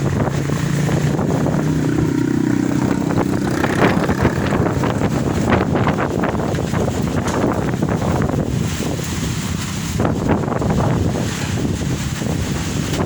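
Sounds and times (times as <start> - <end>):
wind gusting against microphone: 0.0 - 13.0.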